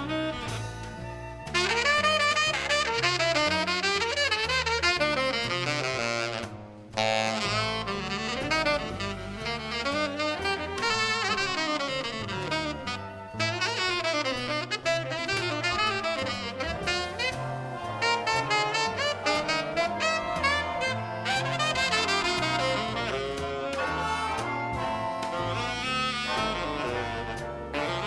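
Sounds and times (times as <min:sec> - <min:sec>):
big band jazz: 0:00.0 - 0:28.0.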